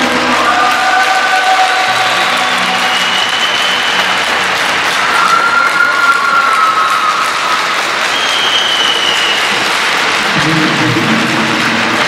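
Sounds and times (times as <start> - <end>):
applause from small group: 0.0 - 12.0.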